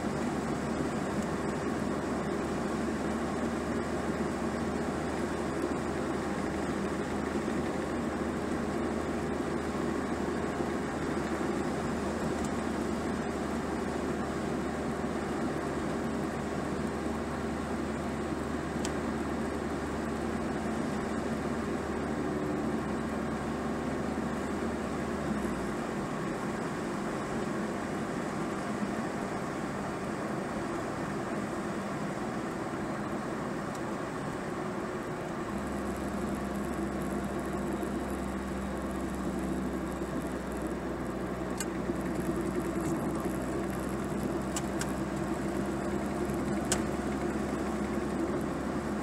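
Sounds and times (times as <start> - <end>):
car engine and tyre hum: 0.0 - 49.0.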